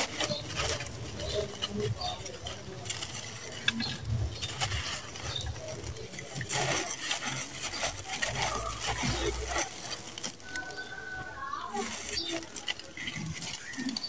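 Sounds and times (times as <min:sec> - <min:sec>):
sand-cement chunks crumbling: 0:00.0 - 0:14.0.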